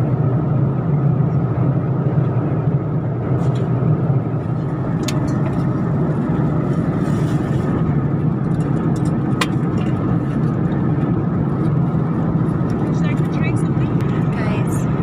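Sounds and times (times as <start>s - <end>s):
jet engine and airflow roar: 0.0s - 15.0s.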